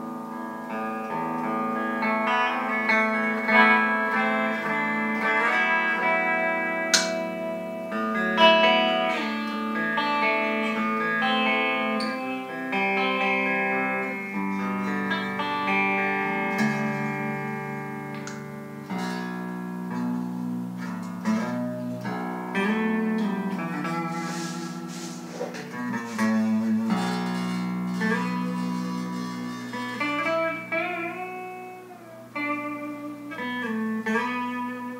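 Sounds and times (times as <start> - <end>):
electric guitar notes and chords: 0.0 - 34.9.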